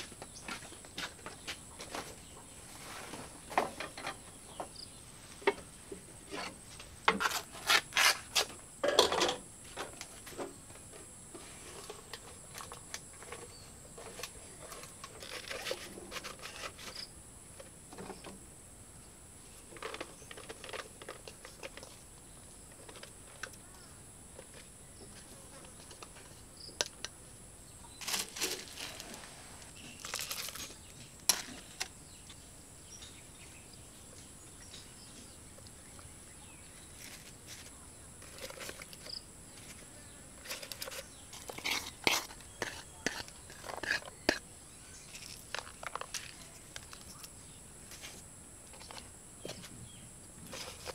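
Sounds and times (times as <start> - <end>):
insects buzzing: 0.0 - 50.9.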